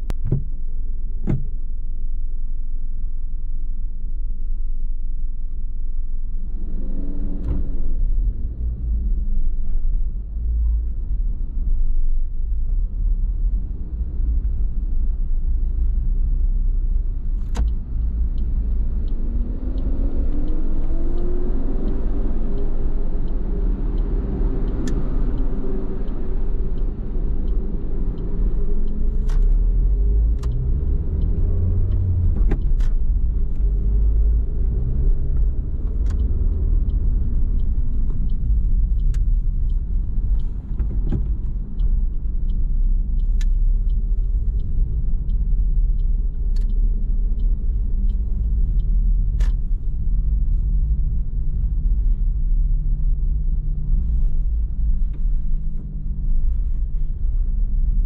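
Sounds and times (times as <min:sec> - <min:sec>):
car engine driving: 0:00.0 - 0:58.0.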